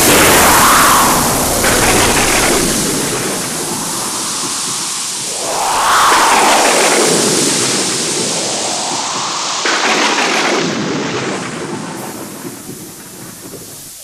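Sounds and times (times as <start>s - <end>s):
rain hiss: 0.0s - 14.0s
rolling thunder: 0.0s - 14.0s
thunder clap: 0.0s - 14.0s.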